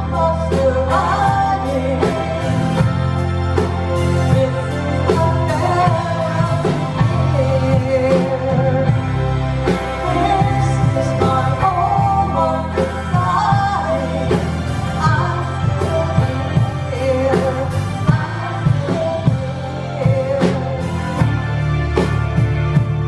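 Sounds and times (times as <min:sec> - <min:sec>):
woman singing: 0:00.0 - 0:21.5
bass line: 0:00.0 - 0:23.0.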